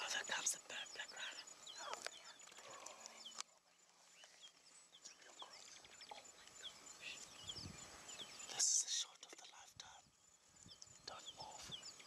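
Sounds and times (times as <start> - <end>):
high falling bird chirps: 0.0 - 12.0.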